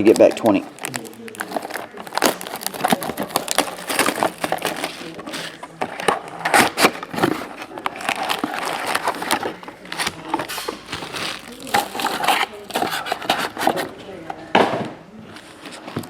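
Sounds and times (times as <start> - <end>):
foil wrappers tearing and crinkling: 0.0 - 14.0.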